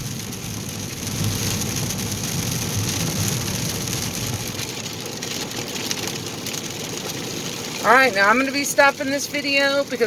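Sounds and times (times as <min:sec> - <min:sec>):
car rumbling on wet road: 0:00.0 - 0:10.0
rain falling on a car: 0:00.0 - 0:10.0.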